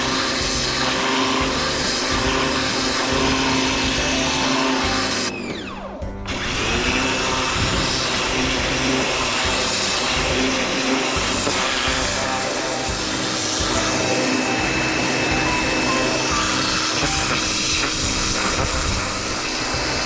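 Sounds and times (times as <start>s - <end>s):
electric motor hissing and humming: 0.0s - 20.0s.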